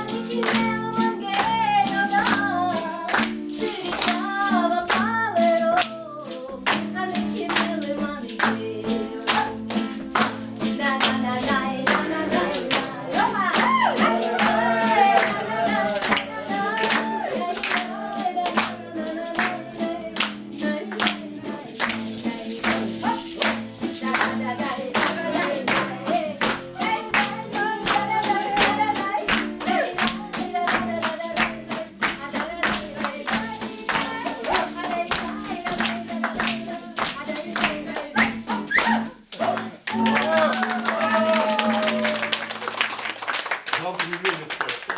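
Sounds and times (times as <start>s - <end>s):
person singing: 0.0s - 42.5s
rhythmic hand clapping: 0.0s - 44.9s.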